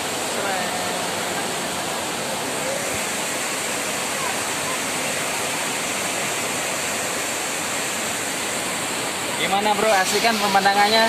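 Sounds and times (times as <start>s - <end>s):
waterfall pouring onto rocks: 0.0s - 11.0s.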